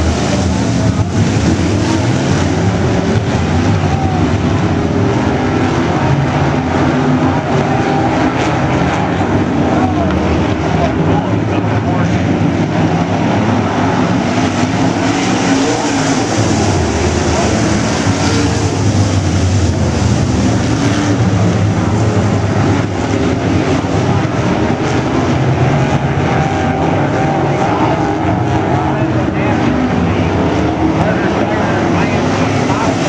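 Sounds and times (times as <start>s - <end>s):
race car engines roaring: 0.0s - 33.0s.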